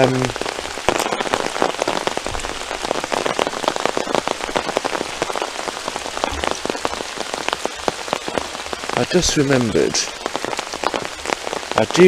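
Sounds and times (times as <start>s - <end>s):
close raindrop hits: 0.0s - 12.0s
heavy rain falling: 0.0s - 12.0s.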